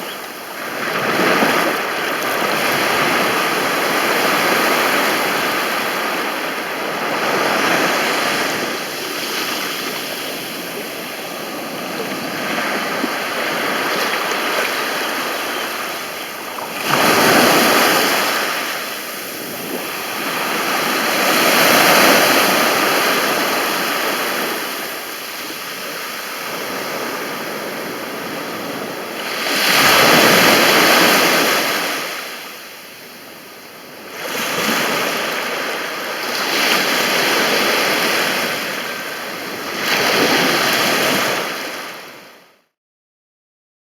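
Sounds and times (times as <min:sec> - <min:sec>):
sea waves breaking on beach: 0:00.0 - 0:33.2, 0:33.9 - 0:42.4.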